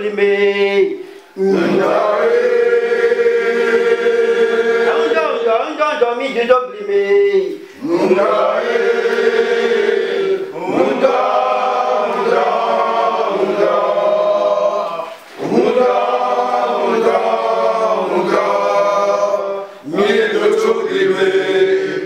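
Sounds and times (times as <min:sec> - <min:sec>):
men chanting in unison: 0:00.0 - 0:05.8, 0:06.9 - 0:22.0.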